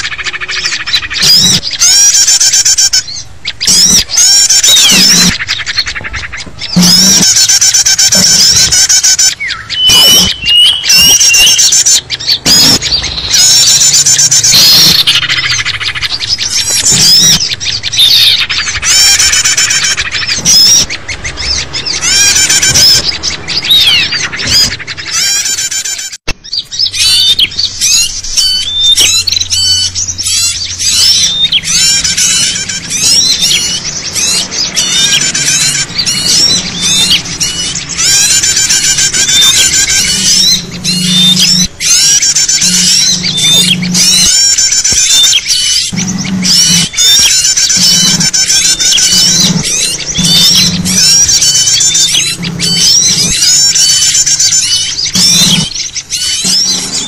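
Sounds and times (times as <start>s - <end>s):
songbirds chattering: 0.0s - 57.0s.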